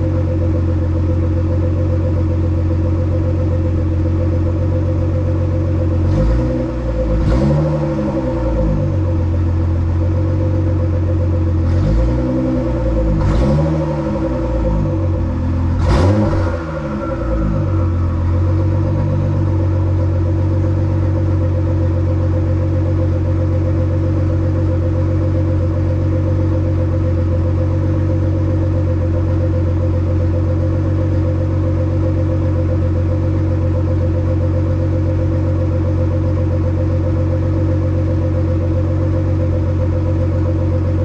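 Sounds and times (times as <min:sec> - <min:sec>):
car engine idling: 0:00.0 - 0:41.0
engine revving: 0:00.0 - 0:41.0.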